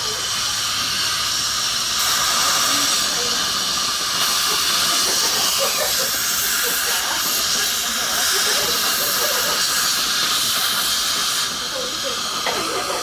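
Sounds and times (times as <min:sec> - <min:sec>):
dental suction hissing: 0:00.0 - 0:13.0.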